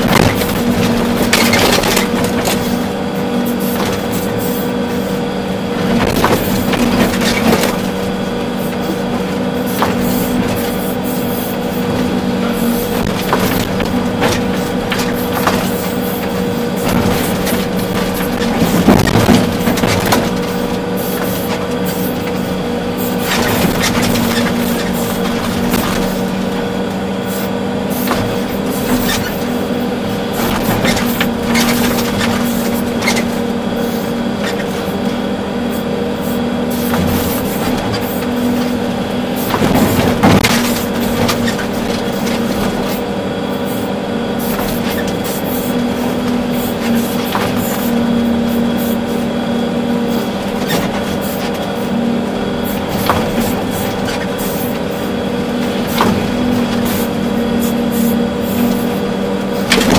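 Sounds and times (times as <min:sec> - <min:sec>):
excavator knocks and clatters: 0:00.0 - 0:35.4, 0:36.5 - 0:59.9
diesel engine under load: 0:00.0 - 0:59.9.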